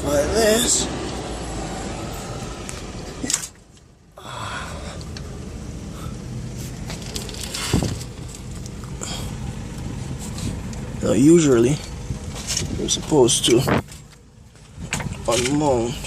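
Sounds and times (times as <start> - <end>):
outdoor background hum: 0.0 - 16.0.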